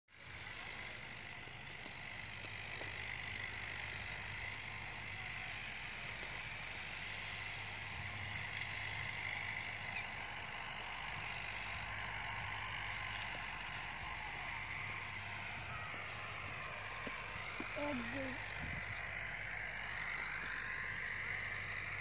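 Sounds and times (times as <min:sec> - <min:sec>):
even outdoor hiss: 0:00.1 - 0:22.0.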